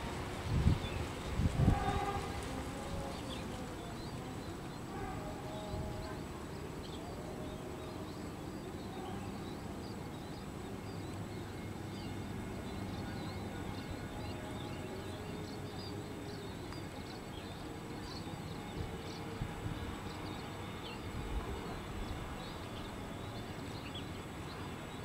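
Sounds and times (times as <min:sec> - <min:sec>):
distant turboprop engines droning: 0:00.0 - 0:25.0.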